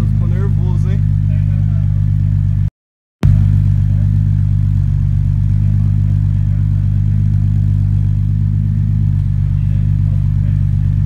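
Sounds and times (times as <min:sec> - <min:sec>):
car engine idling rumble: 0:00.0 - 0:11.0.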